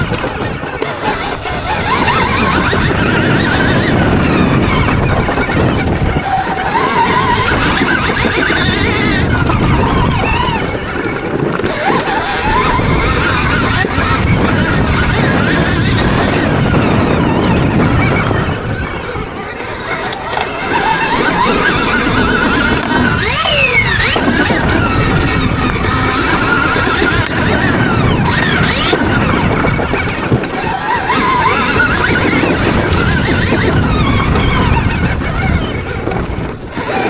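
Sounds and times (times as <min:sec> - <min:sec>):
electric motorbike motor whining: 0:00.0 - 0:37.0
steady rumbling noise: 0:00.0 - 0:37.0.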